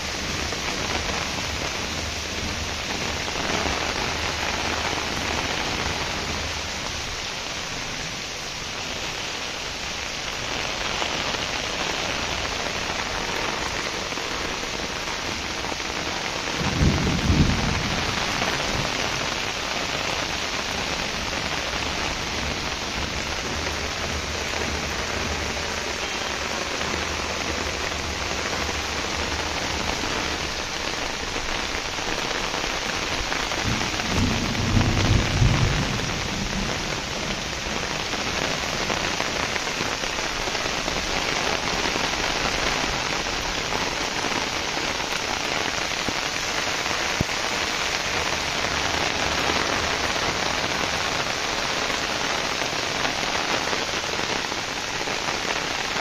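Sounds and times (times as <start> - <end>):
heavy rain on a rooftop: 0.0 - 56.0.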